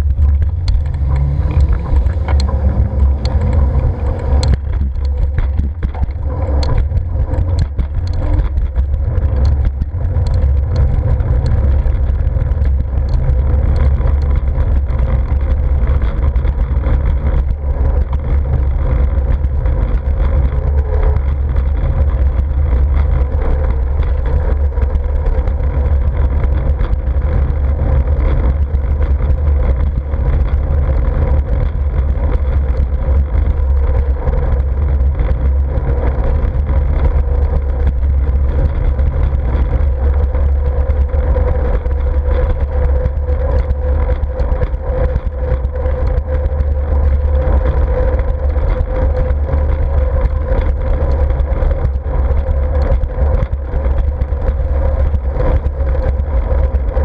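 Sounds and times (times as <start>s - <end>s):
bicycle hum: 0.0s - 57.0s
wind rumbling on microphone: 0.0s - 57.0s.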